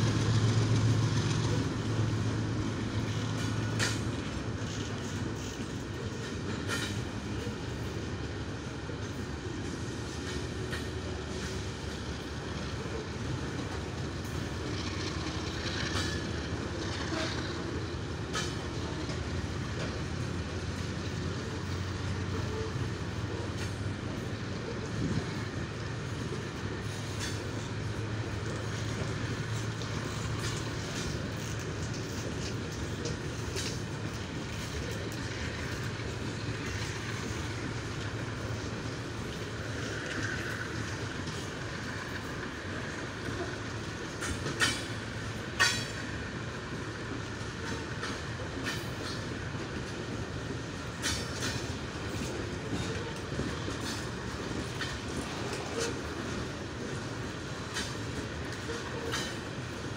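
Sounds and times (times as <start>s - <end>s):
freight train wheels clacking: 0.0s - 59.9s.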